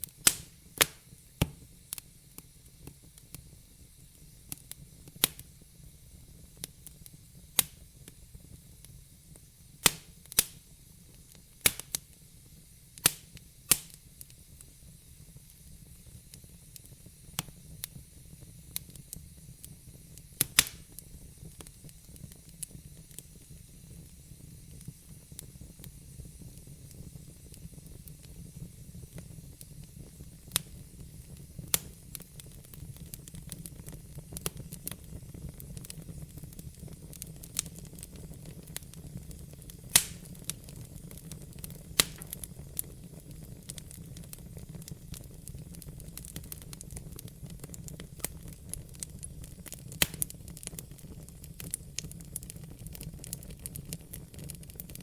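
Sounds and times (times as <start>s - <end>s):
fire crackling and popping: 0.0s - 55.0s
low rumble and hiss: 0.0s - 55.0s.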